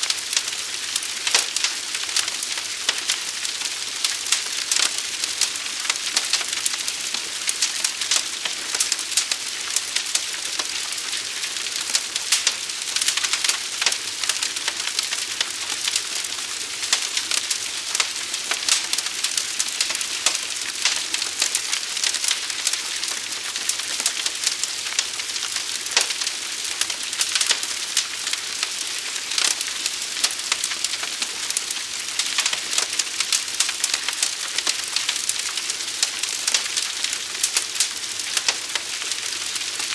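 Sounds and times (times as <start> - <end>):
large fire crackling: 0.0 - 39.9.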